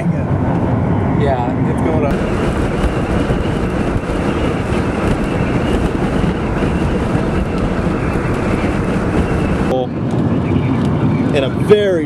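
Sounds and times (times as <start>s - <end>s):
car road and wind noise: 0.0s - 12.0s
wind buffeting microphone: 0.0s - 12.0s.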